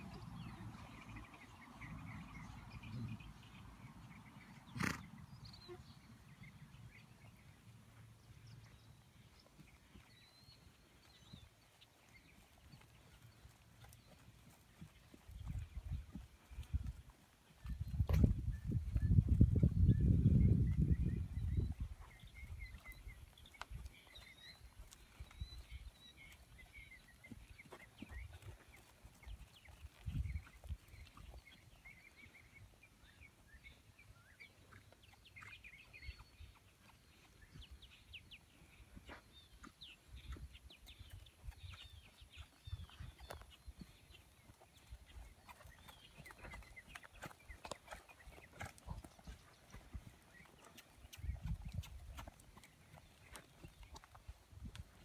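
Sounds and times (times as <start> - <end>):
horse hoofbeats on dirt: 0.0 - 55.0.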